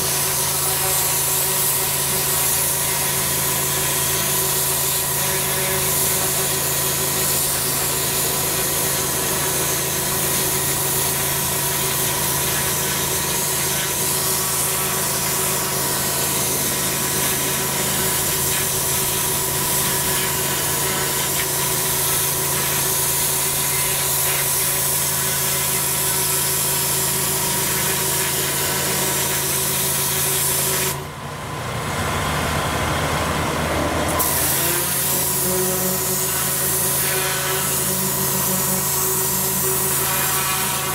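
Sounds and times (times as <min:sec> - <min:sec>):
pressure washer jet hissing: 0:00.0 - 0:31.0, 0:34.1 - 0:40.9
pressure washer motor hum: 0:00.0 - 0:40.9.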